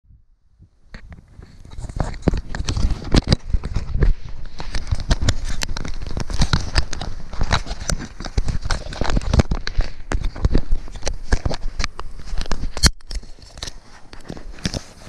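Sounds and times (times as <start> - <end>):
fingers handling camera case: 1.0 - 15.0.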